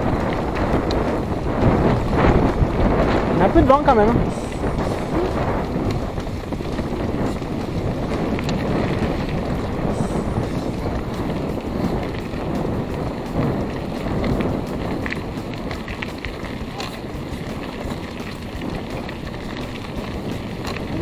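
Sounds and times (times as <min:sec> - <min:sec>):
small clicks and rattles: 0:00.0 - 0:21.0
tyres rolling over dirt: 0:00.0 - 0:21.0
wind buffeting microphone: 0:00.0 - 0:21.0.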